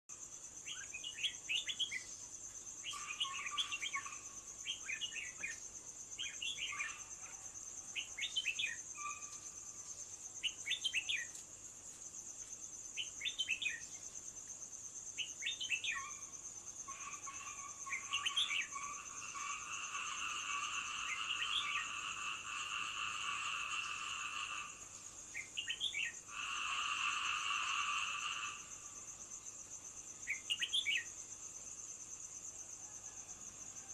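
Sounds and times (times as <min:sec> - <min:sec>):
high-pitched insect trill: 0:00.1 - 0:33.9.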